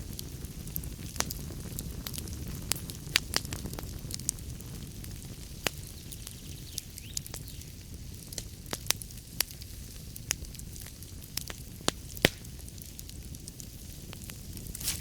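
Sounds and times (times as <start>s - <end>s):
fire crackles and pops: 0.0s - 15.0s
wood fire rumble and hiss: 0.0s - 15.0s.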